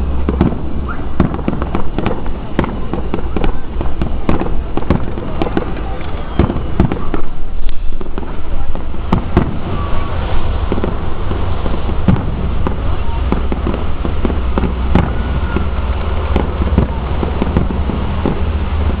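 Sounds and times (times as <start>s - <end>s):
distant fireworks pops and bangs: 0.0s - 19.0s
steady low rumble: 0.0s - 19.0s.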